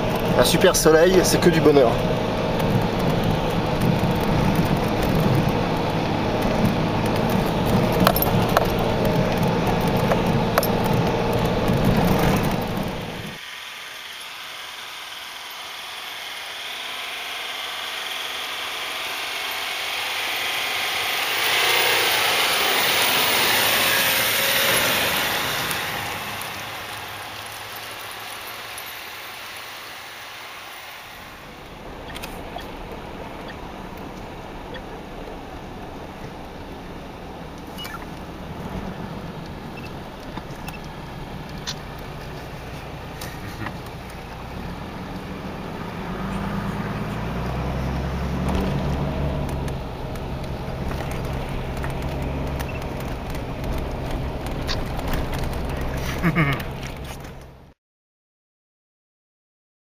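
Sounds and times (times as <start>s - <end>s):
vehicle driving through snow: 0.0s - 13.4s, 16.2s - 57.7s
diesel engine running: 0.0s - 57.7s
road noise: 0.0s - 57.8s.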